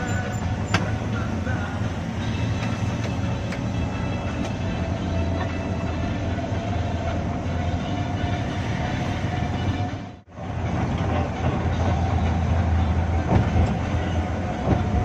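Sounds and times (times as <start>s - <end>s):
coach engine and road drone: 0.0s - 15.0s.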